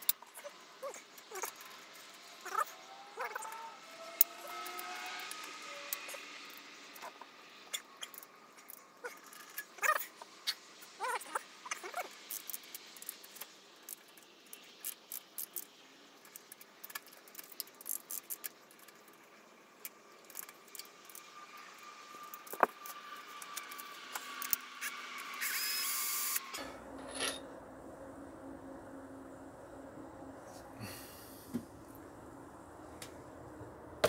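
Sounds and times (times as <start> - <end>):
steady whirring: 0.0 - 34.0.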